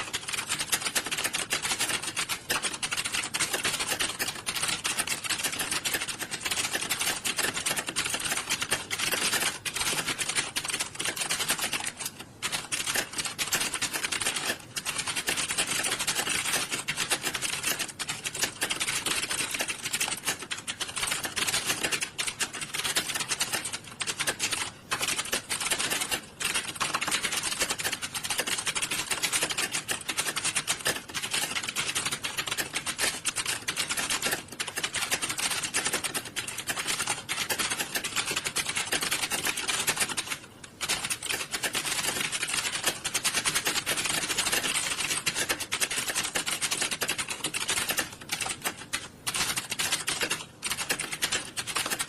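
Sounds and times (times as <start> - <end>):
many keyboards typing: 0.0 - 52.0.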